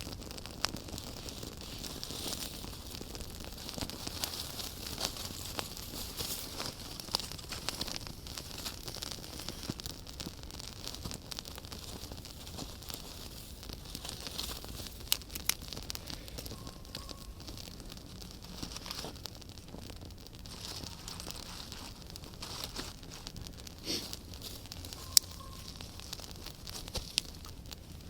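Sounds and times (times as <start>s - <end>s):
campfire crackling: 0.0s - 28.0s
loud fire snaps: 0.0s - 28.0s.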